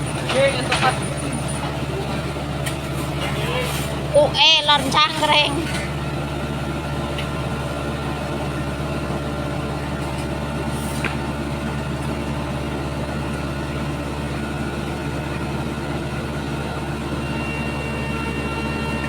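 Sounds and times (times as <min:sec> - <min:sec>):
paving machine engine running: 0:00.0 - 0:19.0.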